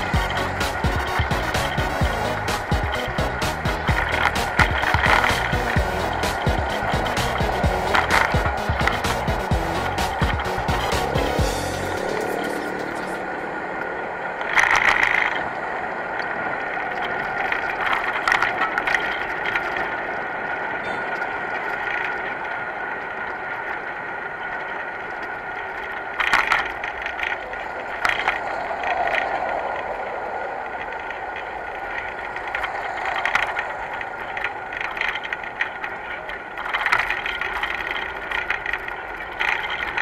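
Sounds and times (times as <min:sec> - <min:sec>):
bicycle clicking and rattling: 0:00.0 - 0:40.0
bicycle rolling: 0:00.0 - 0:40.0.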